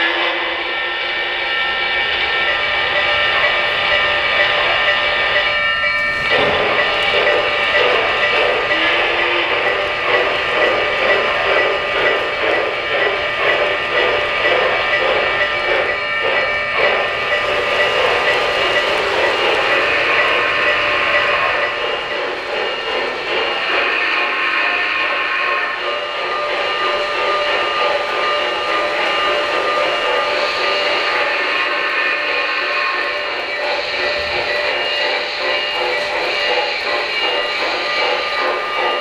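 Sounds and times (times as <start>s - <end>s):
model train rumble and whir: 0.0s - 39.0s
steady high tones: 0.0s - 39.0s.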